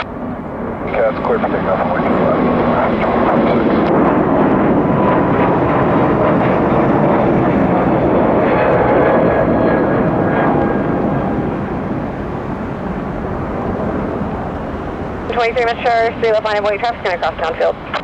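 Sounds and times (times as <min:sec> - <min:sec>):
faint jet whine: 0:00.0 - 0:18.0
jet engines at takeoff: 0:00.0 - 0:18.0.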